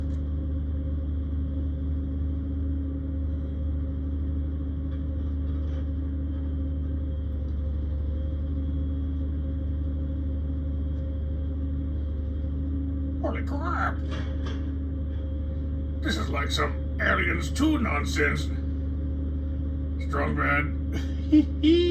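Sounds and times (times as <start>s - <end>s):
crane engine droning: 0.0s - 21.9s.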